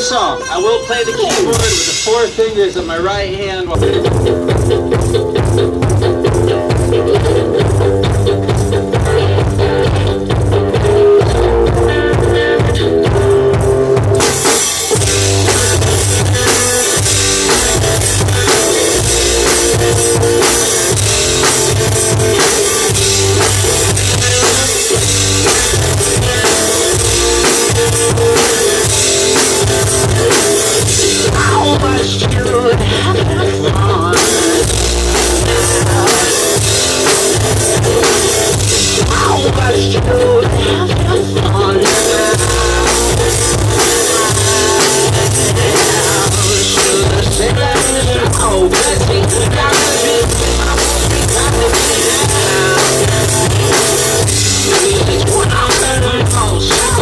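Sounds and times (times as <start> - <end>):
guitar strumming: 0.0 - 57.0
picked bass line: 0.0 - 57.0
drum beat: 1.0 - 2.9, 3.7 - 57.0.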